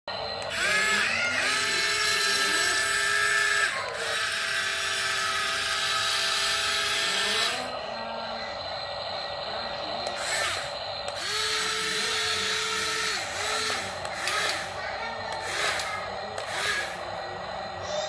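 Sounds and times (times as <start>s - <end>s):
toy electric motors whining: 0.1s - 18.0s.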